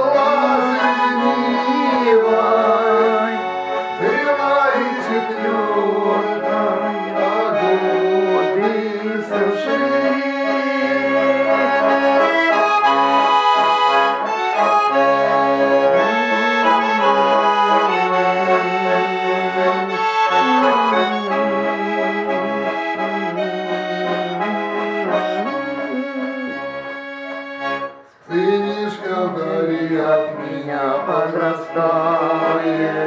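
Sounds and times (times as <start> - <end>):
button accordion playing: 0.0 - 33.0.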